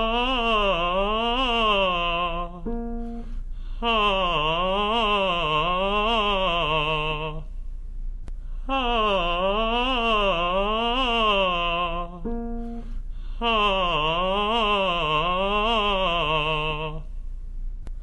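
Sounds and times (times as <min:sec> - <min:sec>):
man singing vocal exercise: 0:00.0 - 0:07.5, 0:08.6 - 0:17.1.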